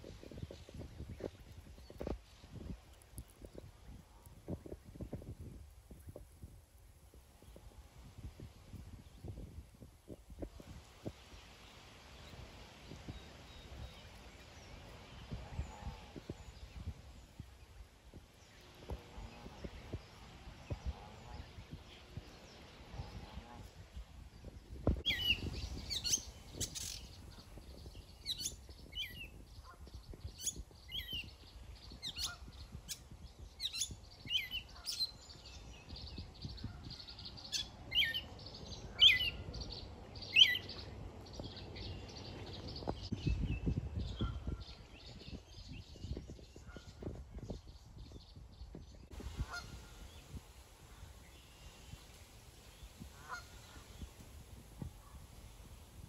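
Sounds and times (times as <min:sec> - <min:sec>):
faint outdoor background noise: 0:00.0 - 0:56.0.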